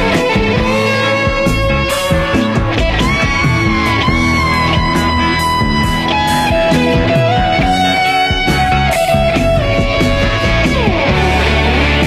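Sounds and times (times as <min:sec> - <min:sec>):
guitar rock music: 0:00.0 - 0:12.0.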